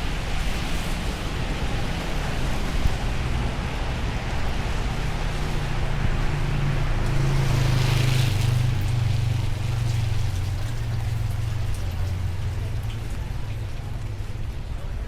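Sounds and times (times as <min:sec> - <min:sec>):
rain on wet pavement: 0:00.0 - 0:15.0
vehicle engine humming: 0:00.0 - 0:15.0.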